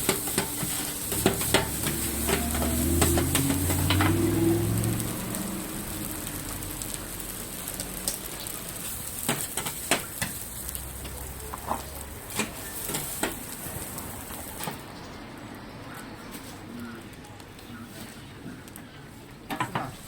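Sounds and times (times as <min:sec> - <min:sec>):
rice sizzling on a griddle: 0:00.0 - 0:15.6, 0:17.8 - 0:20.0.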